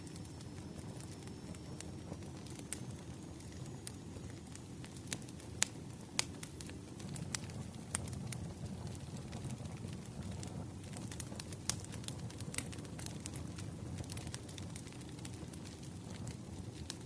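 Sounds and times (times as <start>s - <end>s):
burning logs rumbling: 0.0s - 17.0s
fire pops and snaps: 0.0s - 17.0s.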